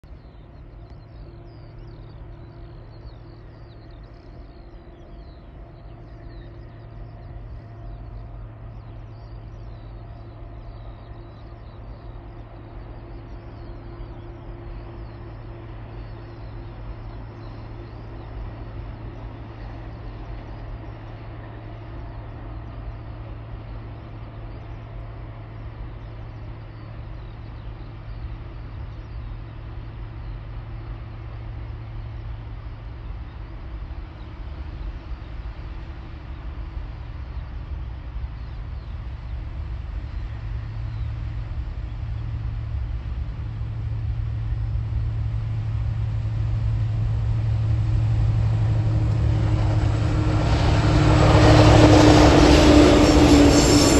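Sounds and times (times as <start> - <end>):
diesel locomotive engine drone: 0.0 - 53.9.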